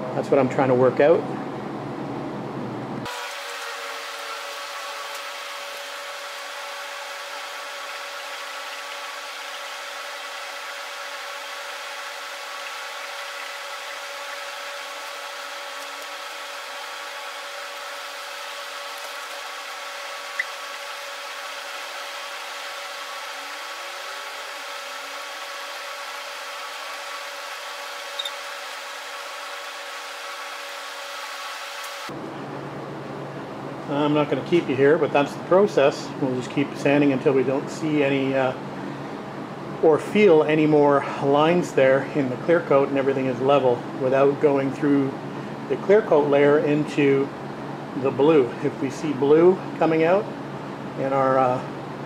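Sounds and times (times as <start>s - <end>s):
background hum and hiss: 0.0s - 52.0s.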